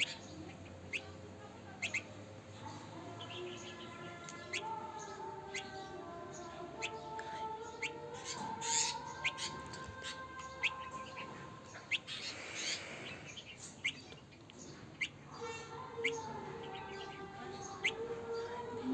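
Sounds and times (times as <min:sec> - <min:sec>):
baby bird chirping: 0:00.0 - 0:18.9.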